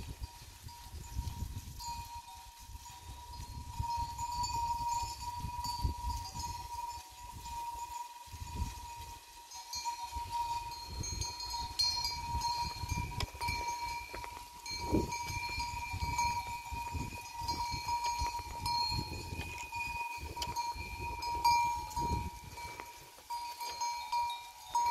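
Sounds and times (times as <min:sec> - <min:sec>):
goat bells clinking: 0:00.0 - 0:24.9.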